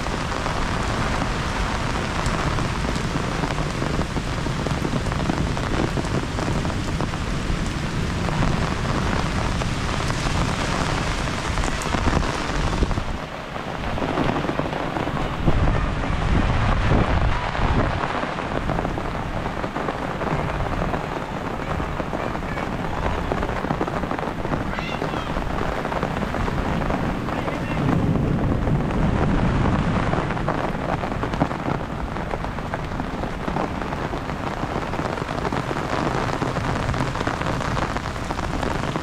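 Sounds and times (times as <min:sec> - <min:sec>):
heavy rain pouring: 0:00.0 - 0:39.0
low rumble of thunder: 0:00.0 - 0:39.0.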